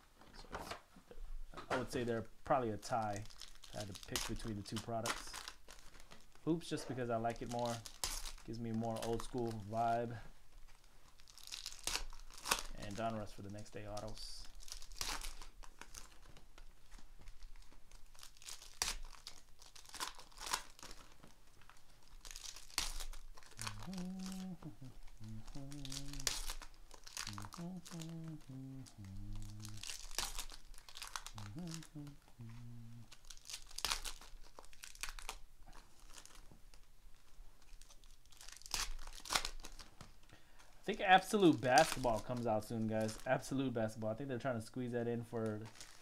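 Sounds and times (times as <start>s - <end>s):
cards rustling: 1.7s - 36.6s, 37.6s - 44.0s
foil wrappers tearing and crinkling: 1.9s - 32.1s, 33.1s - 40.2s, 41.0s - 43.9s, 45.4s - 46.0s.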